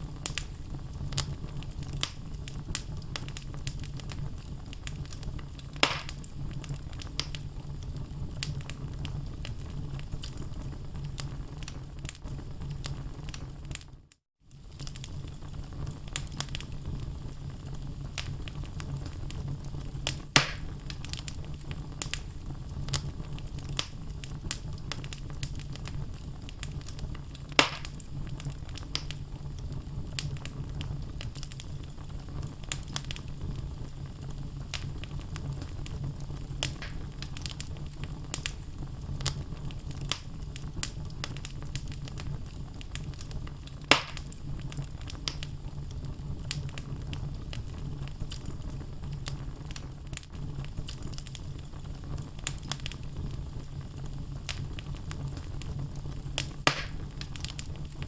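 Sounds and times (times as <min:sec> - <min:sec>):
fire rumbling: 0:00.0 - 0:58.0
wood crackling and popping: 0:00.0 - 0:58.0.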